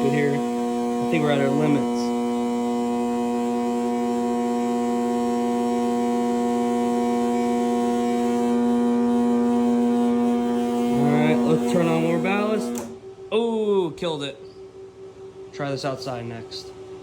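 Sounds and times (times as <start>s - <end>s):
electrical hum with pitched overtones: 0.0s - 17.0s.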